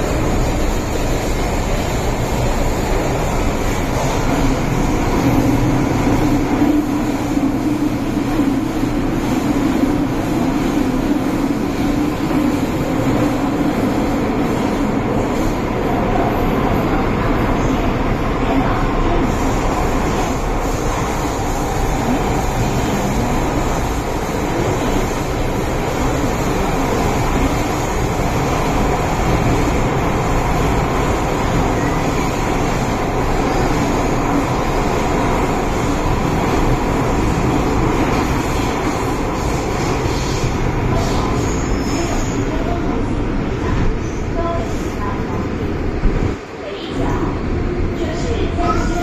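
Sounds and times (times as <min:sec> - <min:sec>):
train running in tunnel: 0:00.0 - 0:49.0.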